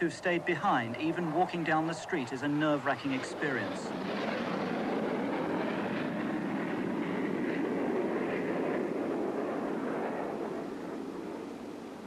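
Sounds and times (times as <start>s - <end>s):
aircraft engine rushing: 0.0s - 12.0s.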